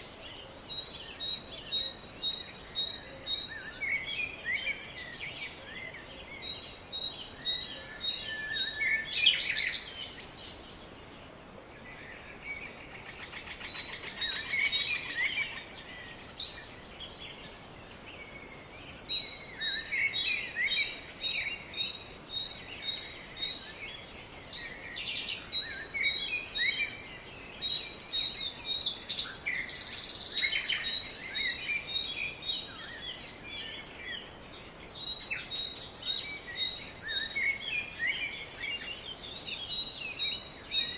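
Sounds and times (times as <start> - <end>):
birds chirping and singing: 0.0 - 40.9
steady background hiss: 0.0 - 40.9.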